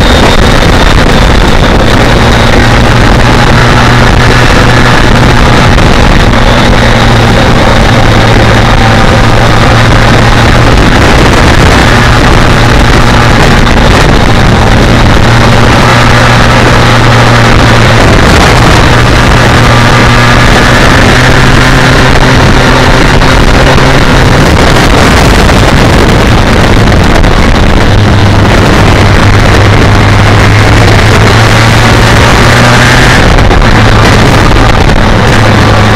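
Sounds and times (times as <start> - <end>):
motorcycle engine cruising: 0.0 - 35.9
wind rush on microphone: 0.0 - 35.9.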